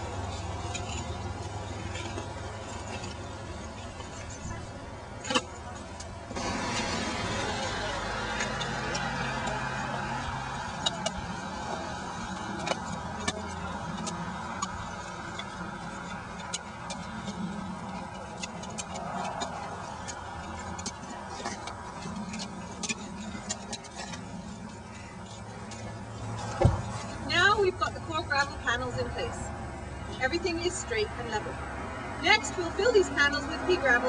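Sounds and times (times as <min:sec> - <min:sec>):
low background noise: 0:00.0 - 0:34.0.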